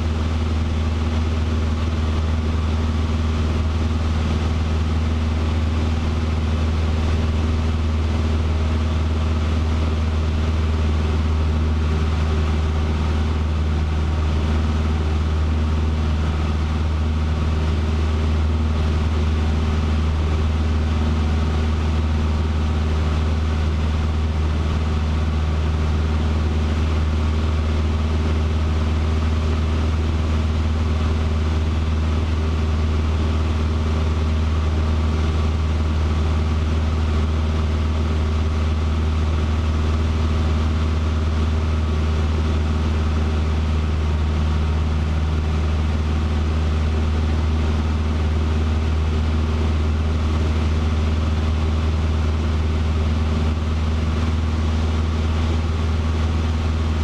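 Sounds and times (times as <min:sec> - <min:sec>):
light airplane engine droning: 0:00.0 - 0:57.0.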